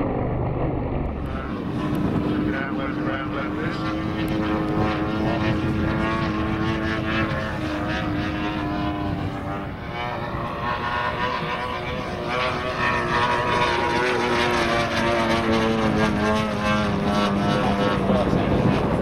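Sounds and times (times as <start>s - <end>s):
model plane engine drone: 0.0s - 19.0s.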